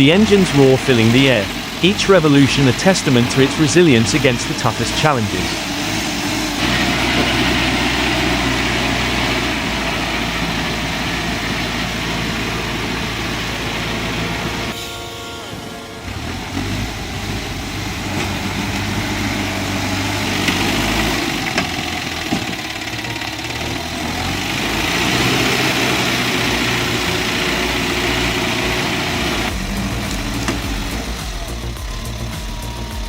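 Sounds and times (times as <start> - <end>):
heavy vehicle engine under load: 0.0 - 33.0.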